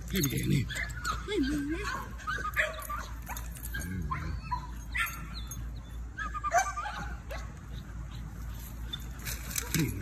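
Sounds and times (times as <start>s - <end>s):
puppy whining and yipping: 0.1s - 9.8s.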